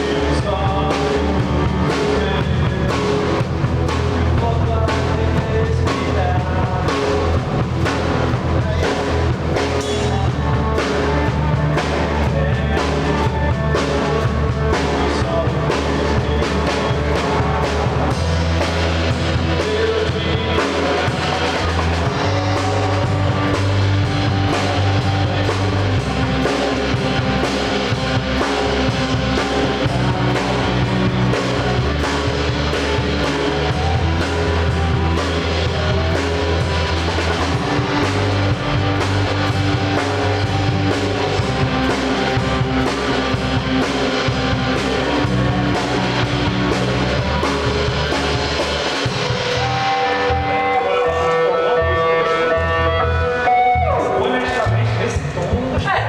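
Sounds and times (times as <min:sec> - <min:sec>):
drum kit: 0:00.0 - 0:56.0
guitars: 0:00.0 - 0:56.0
low bass notes: 0:00.0 - 0:56.0.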